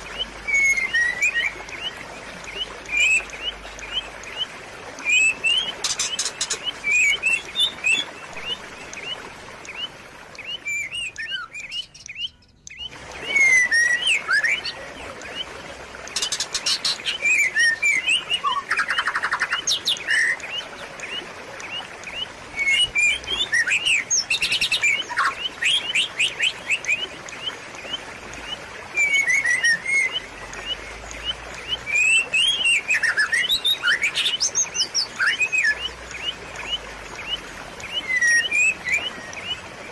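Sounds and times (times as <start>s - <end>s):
songbirds chirping and trilling: 0.0s - 39.9s
trickle of running water: 0.0s - 39.9s.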